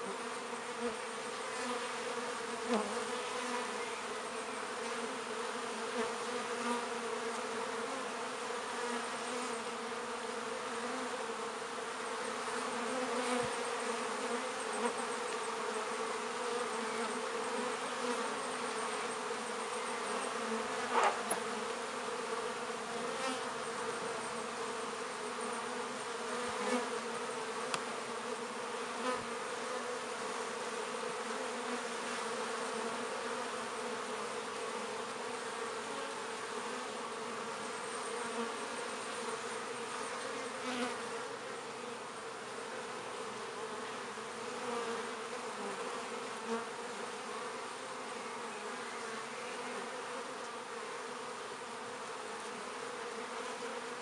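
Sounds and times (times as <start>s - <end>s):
bee buzzing close by: 0.0s - 54.0s
bees humming at hive: 0.0s - 54.0s.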